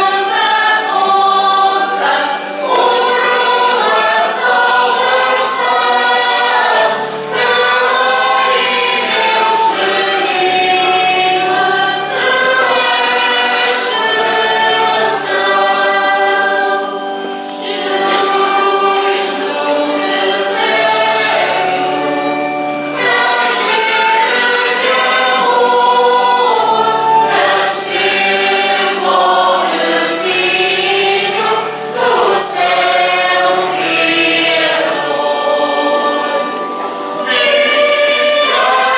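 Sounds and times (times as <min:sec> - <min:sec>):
choir singing a hymn: 0:00.0 - 0:38.9
held low accompanying notes: 0:00.0 - 0:38.9.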